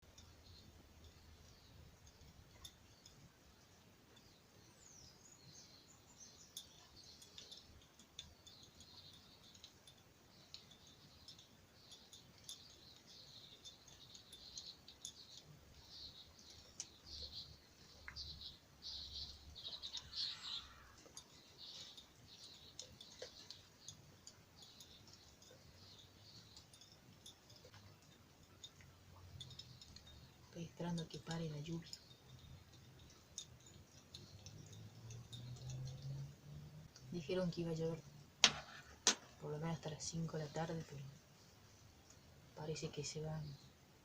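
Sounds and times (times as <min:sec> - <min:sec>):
faint birds chirping: 0:00.0 - 0:44.0.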